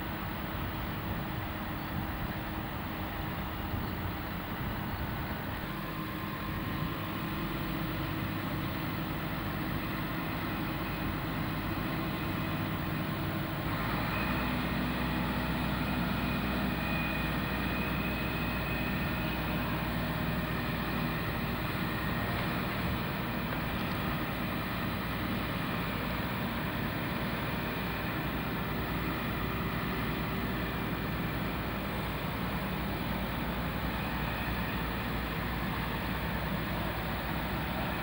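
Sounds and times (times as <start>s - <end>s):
diesel engines running: 0.0s - 38.0s.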